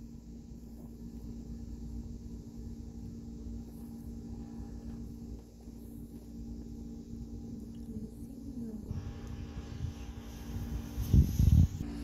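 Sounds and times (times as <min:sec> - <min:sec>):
faint low rumble: 0:00.0 - 0:12.0
steady low hum: 0:00.0 - 0:12.0.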